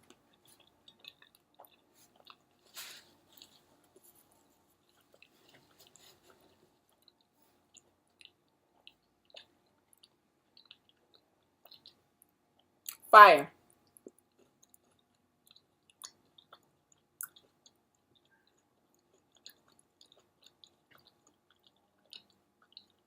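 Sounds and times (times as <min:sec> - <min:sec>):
person chewing food: 0:00.0 - 0:13.0, 0:13.7 - 0:23.0.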